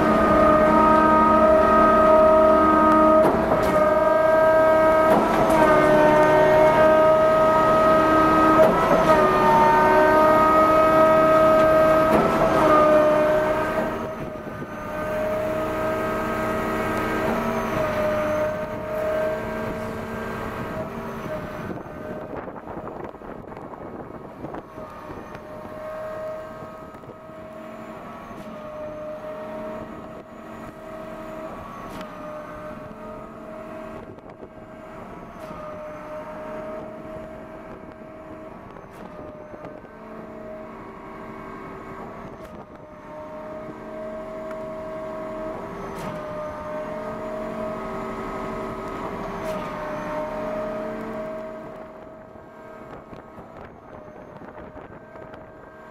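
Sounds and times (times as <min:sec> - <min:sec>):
hydraulic pump whine: 0:00.0 - 0:55.9.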